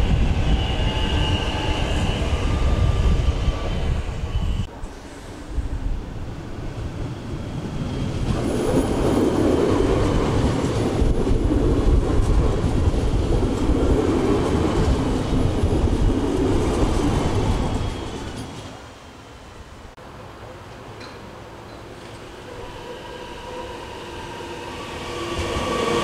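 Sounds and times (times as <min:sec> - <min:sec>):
train wheels on rails: 0:00.0 - 0:19.4, 0:20.6 - 0:26.0.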